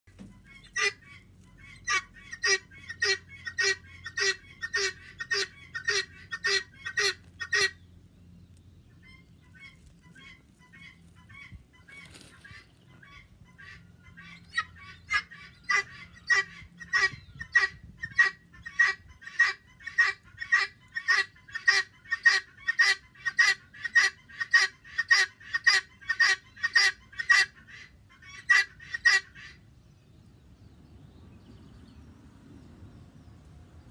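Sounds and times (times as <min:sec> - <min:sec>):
guineafowl harsh calls: 0:00.3 - 0:07.9, 0:08.9 - 0:29.7.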